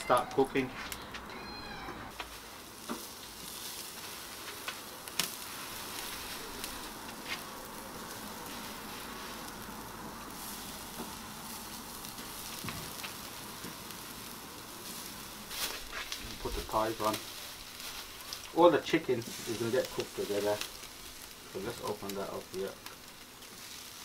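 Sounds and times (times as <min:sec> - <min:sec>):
chicken sizzling on a grill: 0:00.0 - 0:01.2, 0:02.1 - 0:24.0.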